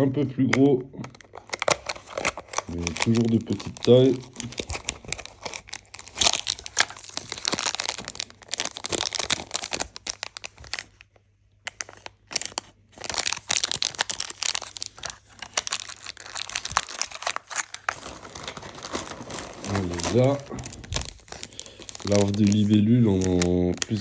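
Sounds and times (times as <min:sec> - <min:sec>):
plastic packaging crinkling: 0:00.5 - 0:24.0.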